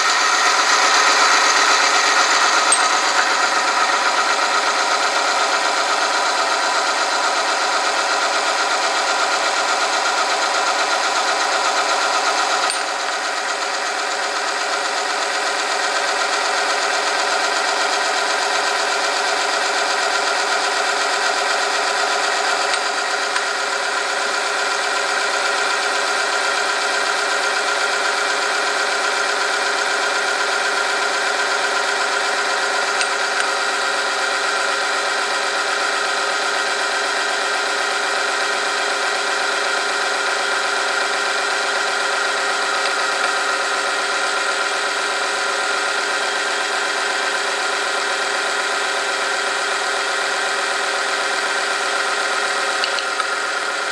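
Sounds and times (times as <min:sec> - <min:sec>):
machine motor whine with rattle: 0:00.0 - 0:53.9.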